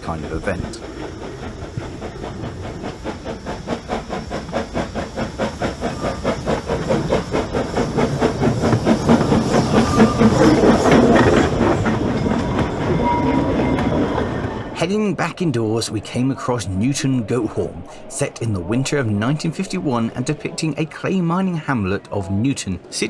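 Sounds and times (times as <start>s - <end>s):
steam hissing: 0.0s - 21.9s
steam locomotive chuffing: 0.0s - 23.0s.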